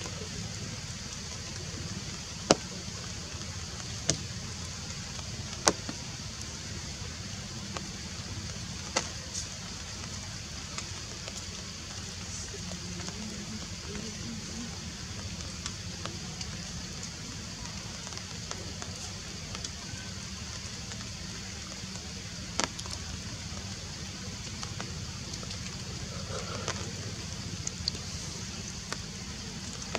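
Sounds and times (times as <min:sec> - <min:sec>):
high hiss: 0:00.0 - 0:29.9.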